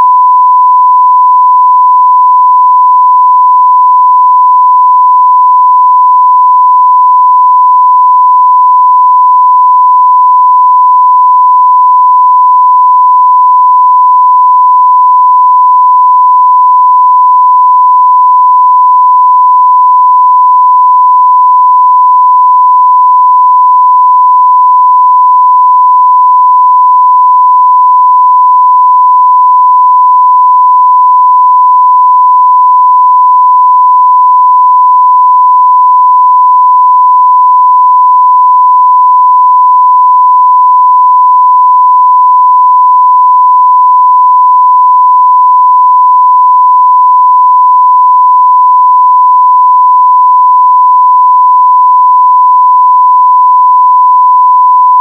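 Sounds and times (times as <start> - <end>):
sine-wave test tone: 0.0 - 55.0.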